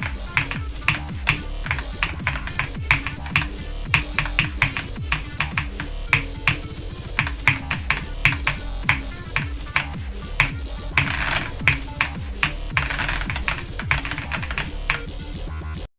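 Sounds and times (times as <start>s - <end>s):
sharp snapping clicks: 0.0s - 15.1s
sliding deep bass notes: 0.0s - 15.8s.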